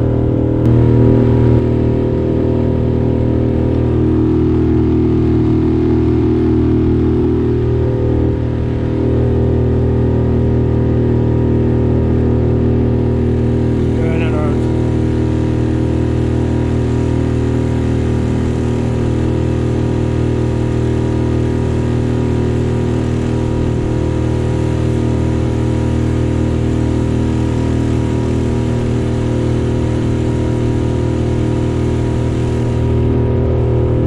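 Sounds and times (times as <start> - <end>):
motorboat engine droning: 0.0 - 34.0.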